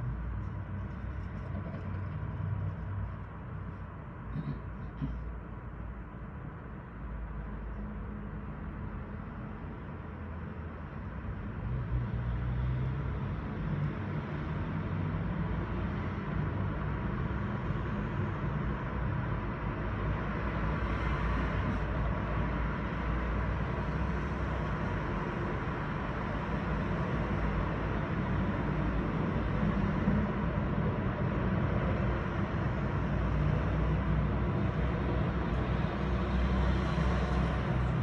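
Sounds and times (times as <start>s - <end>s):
cars driving past: 6.8s - 38.0s.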